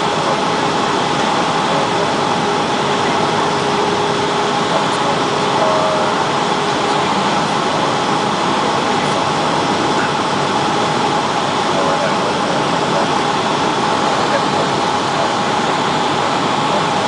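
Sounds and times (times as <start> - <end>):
jet engine: 0.0 - 17.0
rushing airflow: 0.0 - 17.0.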